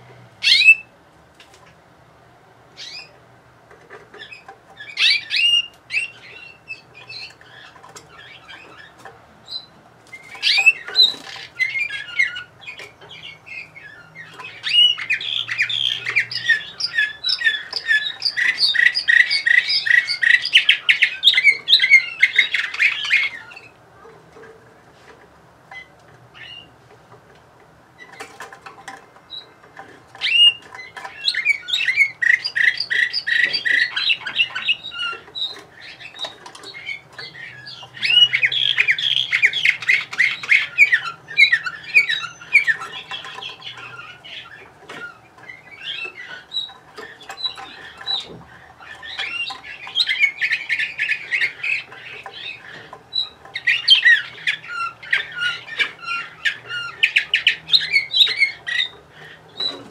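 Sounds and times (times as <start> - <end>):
canary chirps: 0.0 - 0.9, 2.8 - 3.2, 3.8 - 24.8, 25.7 - 26.8, 27.9 - 59.9
canary singing trilled notes: 0.0 - 0.9, 3.9 - 23.8, 25.6 - 26.8, 27.9 - 59.9.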